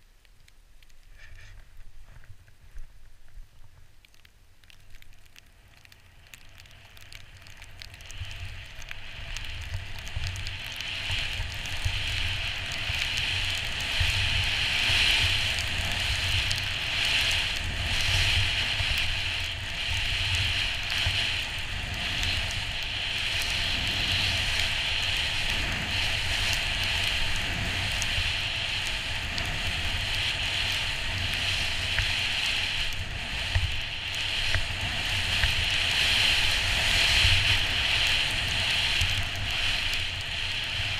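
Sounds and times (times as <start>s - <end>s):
skis sliding over snow: 6.7s - 40.9s.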